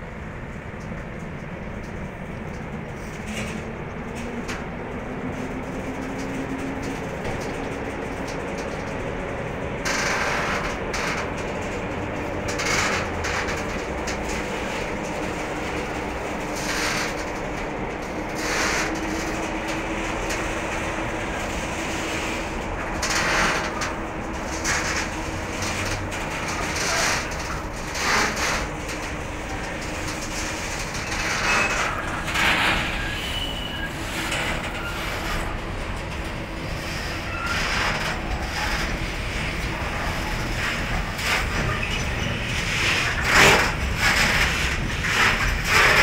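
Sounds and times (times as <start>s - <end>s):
train rumble: 0.0s - 46.0s
train wheels clattering over rail joints: 0.3s - 46.0s.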